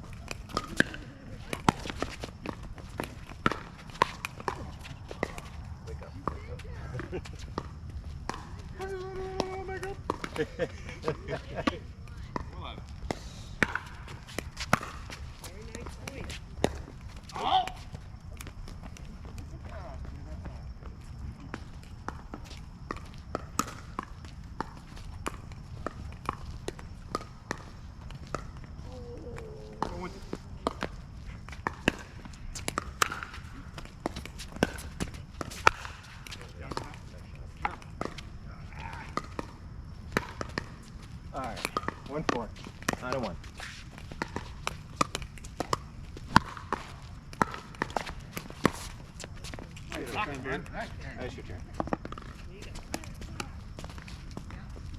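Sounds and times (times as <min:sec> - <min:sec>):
ball bouncing: 0:00.0 - 0:20.1, 0:21.4 - 0:49.6, 0:51.7 - 0:54.9
feet scuffing on court: 0:00.0 - 0:54.9.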